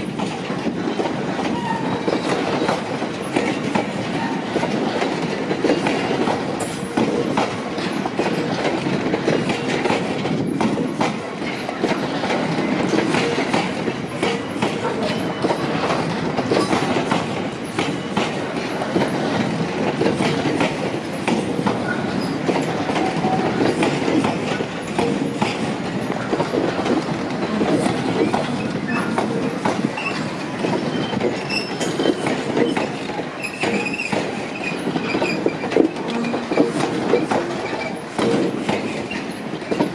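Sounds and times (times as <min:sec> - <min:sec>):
train wheels rumbling on rails: 0:00.0 - 0:39.9
wheels clacking over rail joints: 0:00.0 - 0:39.9.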